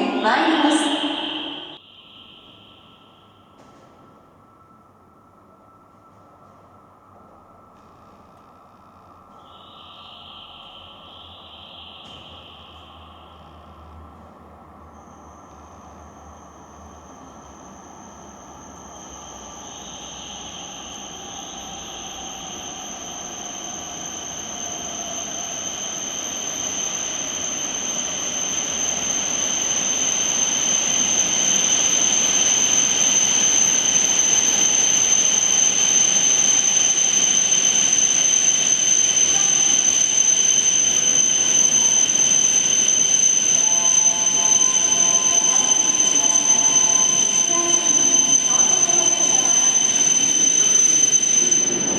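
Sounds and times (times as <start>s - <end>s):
high-speed train whine: 0.0s - 51.9s.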